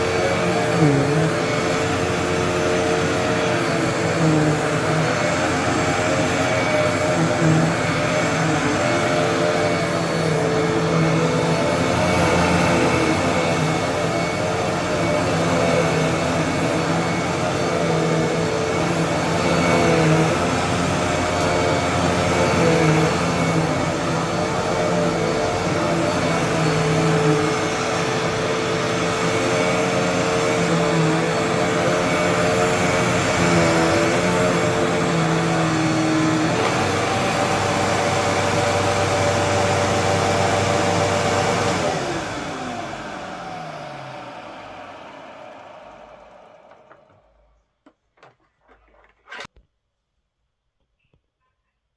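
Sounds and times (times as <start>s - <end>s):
vacuum cleaner running: 0.0s - 49.4s.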